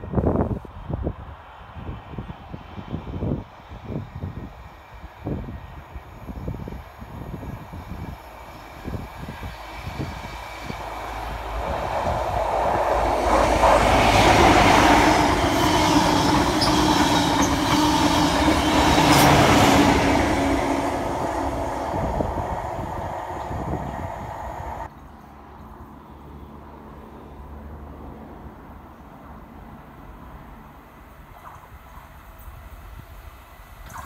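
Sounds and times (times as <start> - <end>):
passenger train passing: 0.0 - 33.8.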